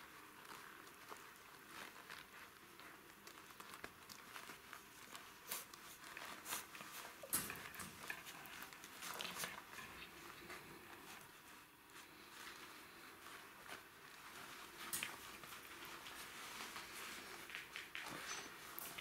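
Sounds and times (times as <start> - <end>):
puppies scuffling with toy: 0.0 - 19.0.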